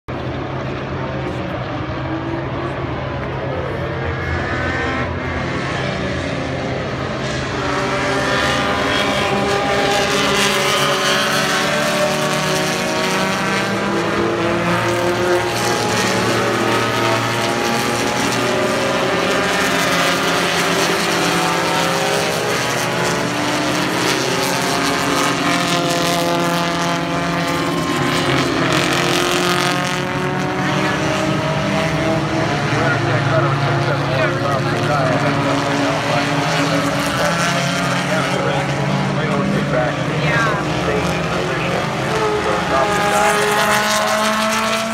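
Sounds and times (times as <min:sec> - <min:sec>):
race car engines: 0:00.0 - 0:44.9.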